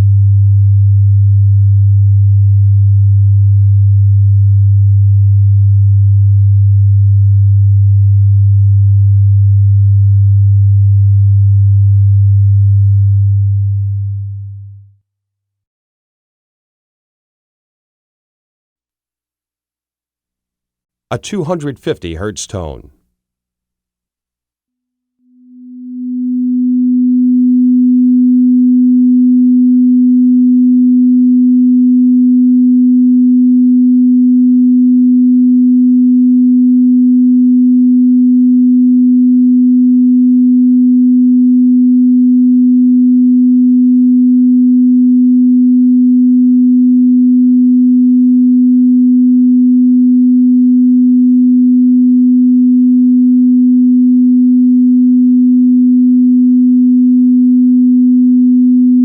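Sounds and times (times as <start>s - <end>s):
sine wave test tone: 0.0s - 15.0s, 24.9s - 59.0s.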